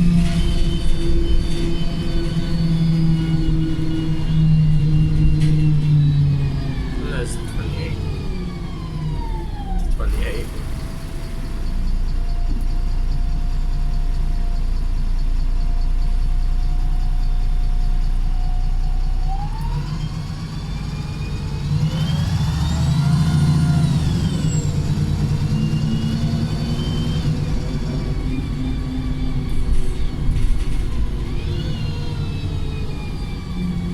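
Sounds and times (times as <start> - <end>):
bus engine rumble: 0.0 - 33.9.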